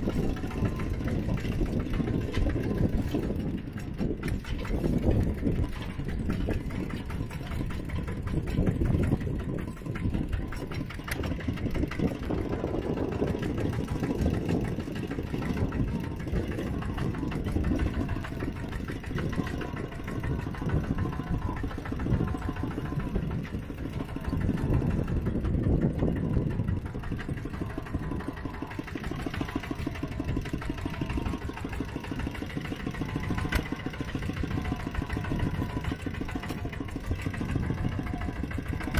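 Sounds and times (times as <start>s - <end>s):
tractor engines chugging: 0.0s - 38.9s.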